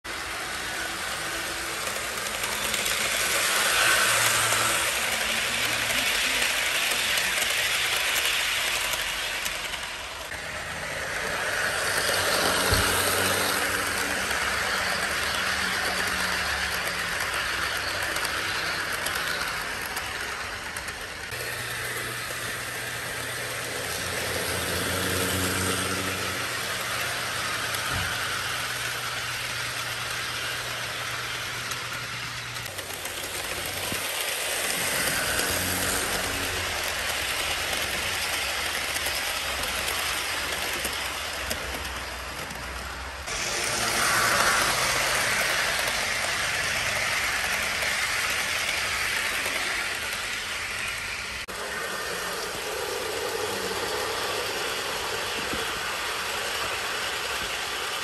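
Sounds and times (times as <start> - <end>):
model train wheels clattering: 0.0 - 58.0.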